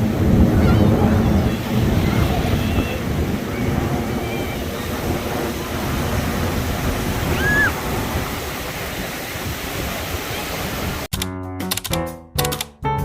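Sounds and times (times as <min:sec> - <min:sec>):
steady outdoor rushing noise: 0:00.0 - 0:11.1.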